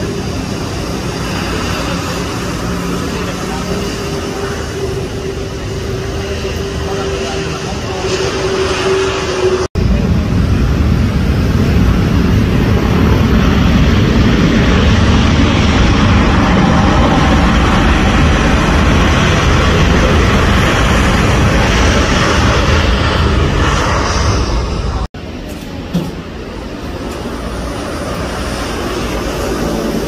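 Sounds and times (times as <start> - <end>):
aircraft engine rushing: 0.0 - 30.0.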